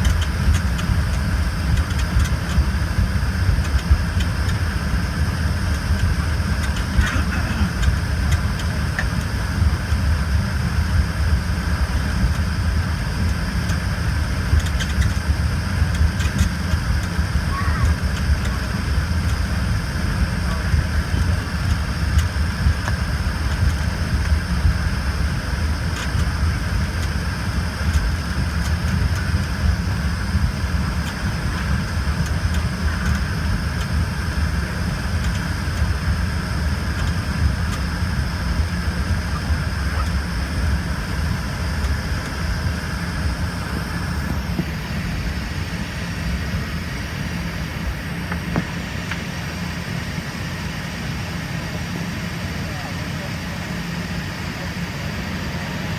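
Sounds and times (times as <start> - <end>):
high engine whine: 0.0 - 55.9
jet cabin engine rumble: 0.0 - 55.9.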